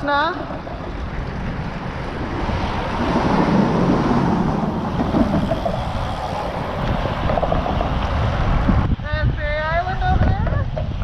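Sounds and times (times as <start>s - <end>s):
engine drone: 0.0s - 9.0s
wind buffeting microphone: 0.0s - 11.0s.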